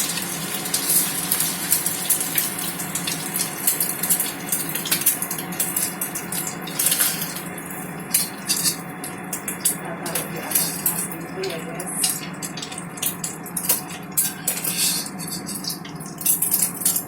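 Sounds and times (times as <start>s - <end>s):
egg frying in oil: 0.0s - 17.0s.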